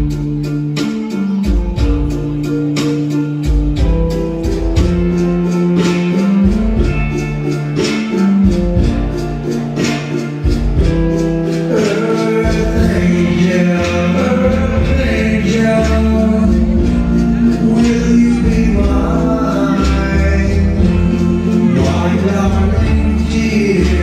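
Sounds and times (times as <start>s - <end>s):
person singing: 0.0s - 24.0s
waltz music: 0.0s - 24.0s.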